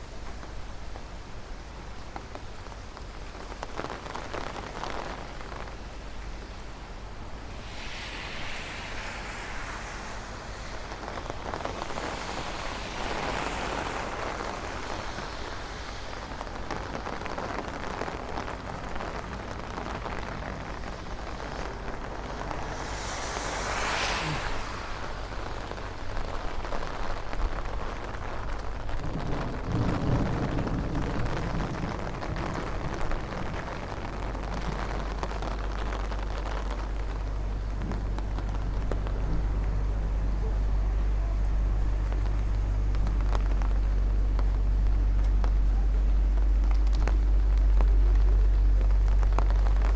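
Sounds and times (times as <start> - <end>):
heavy rain on street: 0.0 - 49.9
traffic swishing on wet road: 0.0 - 49.9.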